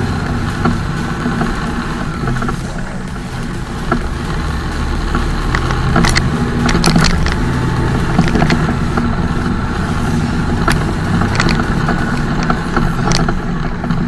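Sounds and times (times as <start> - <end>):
diesel truck engine under load: 0.0 - 14.0
sharp clicks: 0.2 - 9.5, 10.5 - 14.0.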